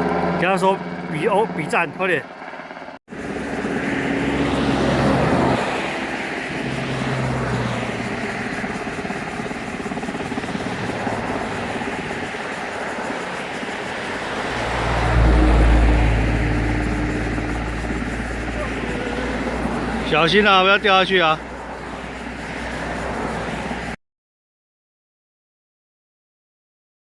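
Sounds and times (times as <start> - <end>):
helicopter engine and rotor hum: 0.0 - 24.0.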